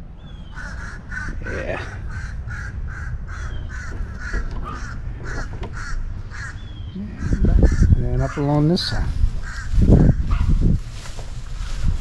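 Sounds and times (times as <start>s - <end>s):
low rumbling noise: 0.0s - 12.0s
bird harsh caw-like calls: 0.2s - 10.7s.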